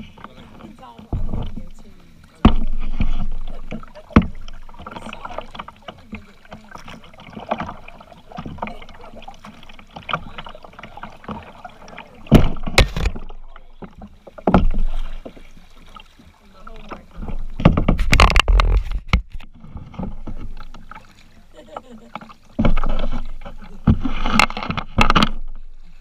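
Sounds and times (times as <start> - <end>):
paddle strokes splashing: 0.0 - 26.0
water sloshing against hull: 0.0 - 26.0
sharp knocks on kayak: 1.0 - 1.8, 2.4 - 15.5, 17.2 - 21.1, 22.2 - 25.6.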